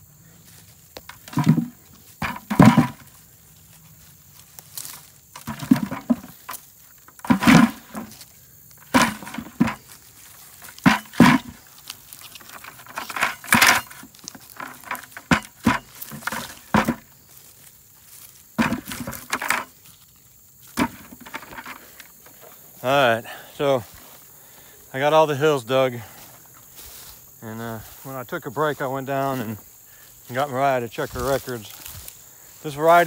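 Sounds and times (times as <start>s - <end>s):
dry vines rustling: 0.2s - 33.0s
soil scraping: 0.4s - 33.0s.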